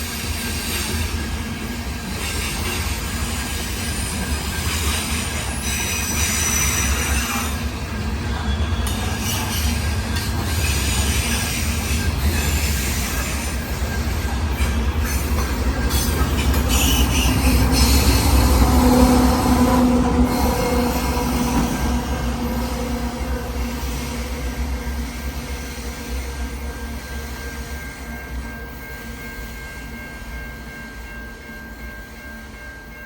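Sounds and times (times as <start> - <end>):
train wheels squealing: 0.0 - 32.9
freight train rumbling past: 0.0 - 33.0.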